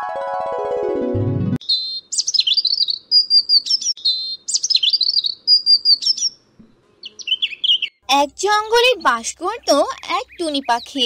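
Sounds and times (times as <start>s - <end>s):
birdsong chirps and trills: 1.6s - 11.0s.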